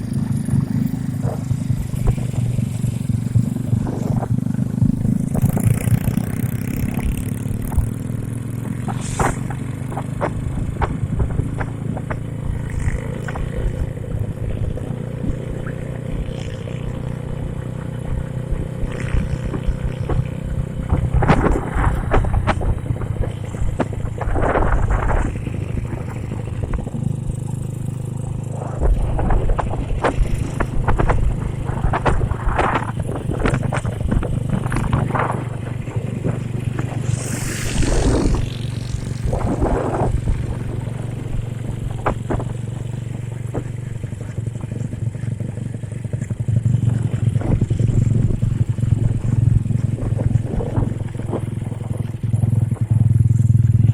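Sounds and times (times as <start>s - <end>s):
motorcycle engine running: 0.0s - 53.9s
wind on microphone: 0.0s - 53.9s.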